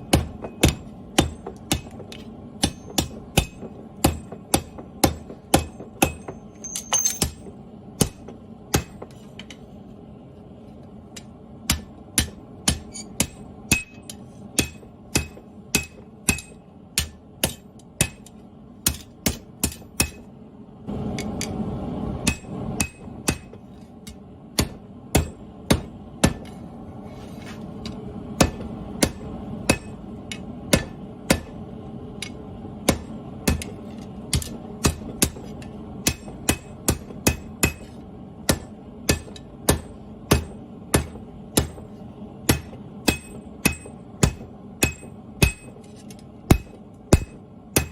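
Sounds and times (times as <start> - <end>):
steady background noise: 0.0 - 47.9
hammer striking steel on anvil: 0.1 - 9.1, 11.1 - 20.3, 22.2 - 26.5, 27.8 - 31.6, 32.2 - 47.9.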